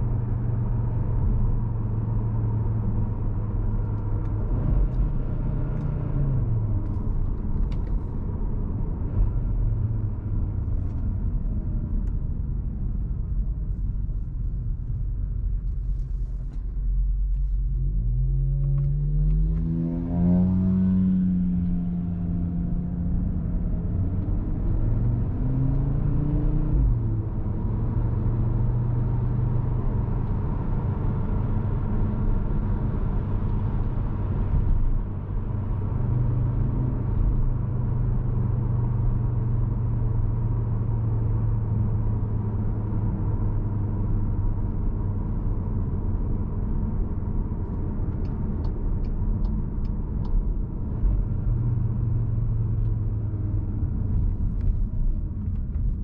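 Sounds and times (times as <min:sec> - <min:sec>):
car engine droning: 0:00.0 - 0:56.0
road noise: 0:00.0 - 0:56.0.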